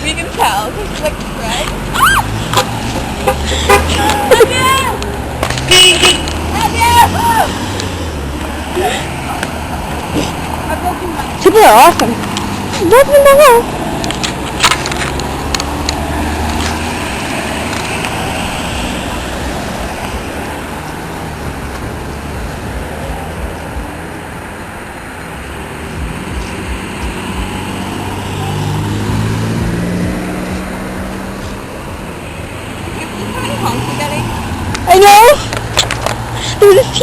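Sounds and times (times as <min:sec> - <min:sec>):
road traffic rushing: 0:00.0 - 0:37.0
vehicle engine passing: 0:00.0 - 0:37.0.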